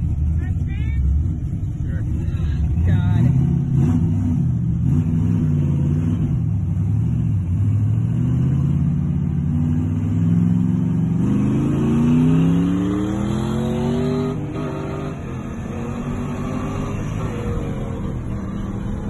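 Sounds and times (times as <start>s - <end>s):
truck engine accelerating: 0.0s - 19.0s.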